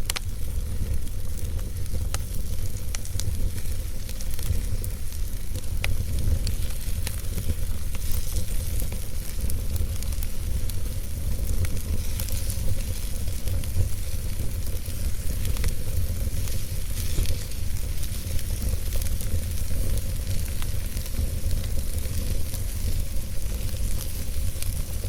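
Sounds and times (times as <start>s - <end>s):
campfire sizzling and crackling: 0.0s - 25.0s.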